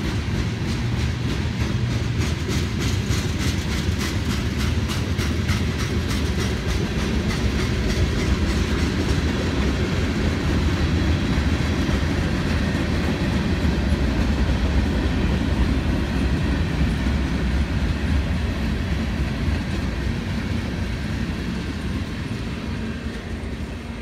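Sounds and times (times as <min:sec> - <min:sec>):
freight cars rumbling on rails: 0:00.0 - 0:24.0.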